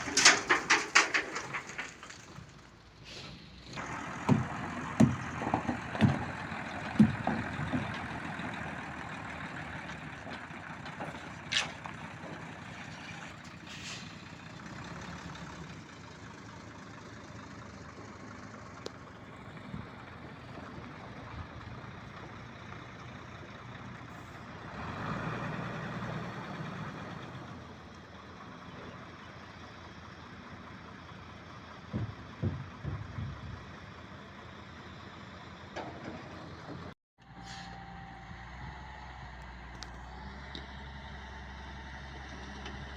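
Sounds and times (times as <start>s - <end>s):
diesel machinery running: 0.0s - 42.9s.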